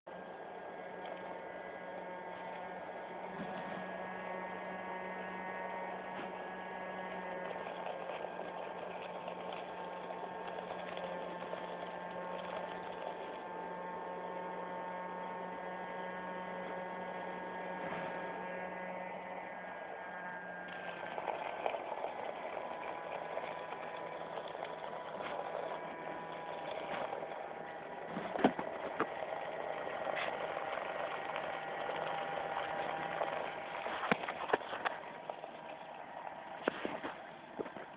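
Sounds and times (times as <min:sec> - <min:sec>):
electric motor humming and whining: 0:00.1 - 0:37.9.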